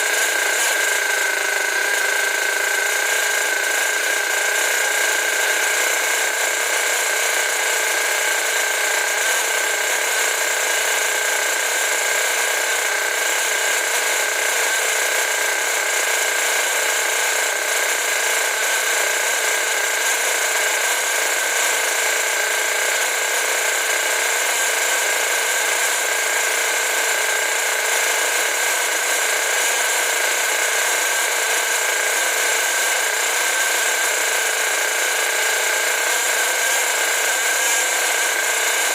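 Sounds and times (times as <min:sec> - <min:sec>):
small engine high-pitched whine: 0:00.0 - 0:38.9.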